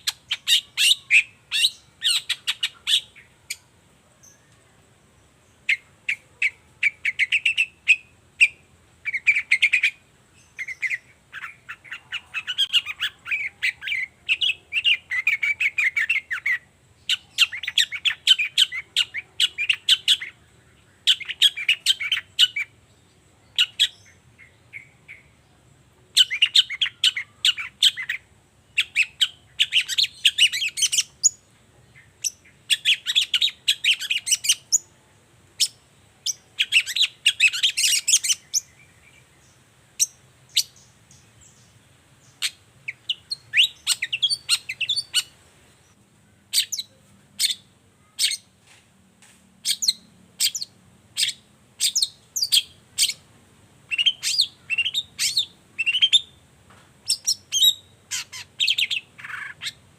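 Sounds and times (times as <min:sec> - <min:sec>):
bird chattering song: 0:00.0 - 0:04.6, 0:05.2 - 0:48.5, 0:49.6 - 0:53.3, 0:53.9 - 0:56.4, 0:57.0 - 0:59.8.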